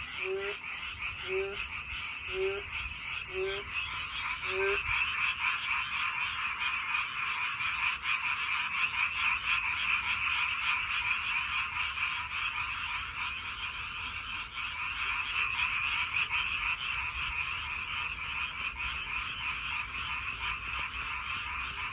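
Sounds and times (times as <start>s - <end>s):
frogs croaking: 0.0s - 21.9s.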